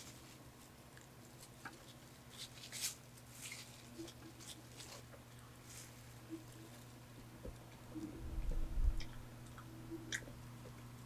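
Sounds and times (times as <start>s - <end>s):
electric fan humming: 0.0s - 11.0s
soft crackles of food handled: 0.0s - 11.0s.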